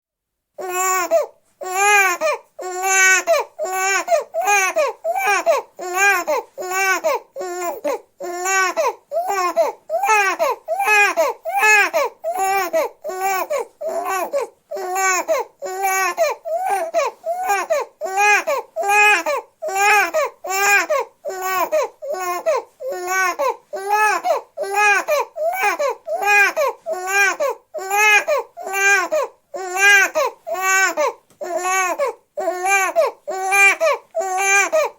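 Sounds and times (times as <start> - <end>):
newborn baby crying: 0.6 - 34.9.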